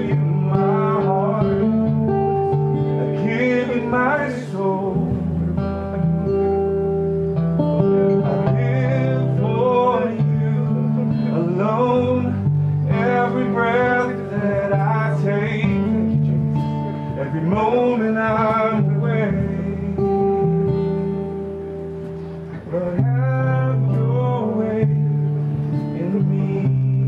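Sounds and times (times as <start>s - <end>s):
man singing: 0.0s - 6.6s, 7.6s - 21.2s, 22.5s - 27.0s
acoustic guitar strumming: 0.0s - 27.0s.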